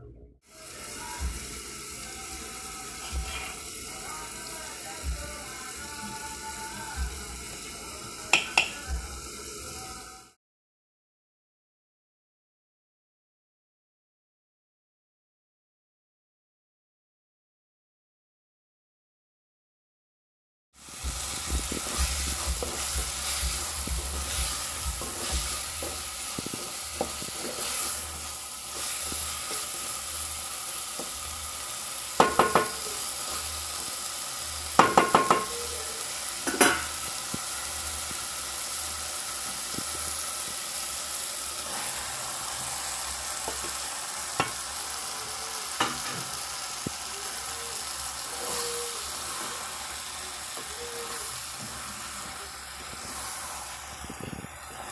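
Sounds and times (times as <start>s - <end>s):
food sizzling in a pan: 0.4s - 10.4s, 20.8s - 54.9s.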